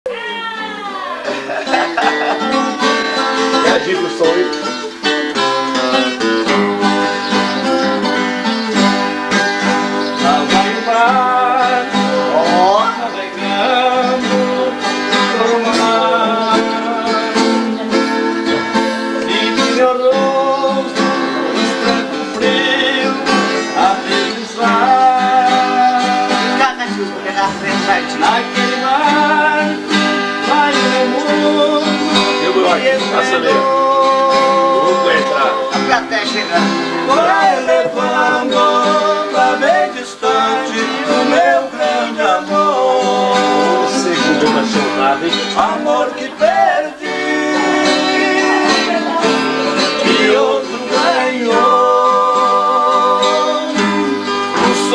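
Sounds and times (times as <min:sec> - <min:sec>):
acoustic guitars playing: 0:00.1 - 0:54.9.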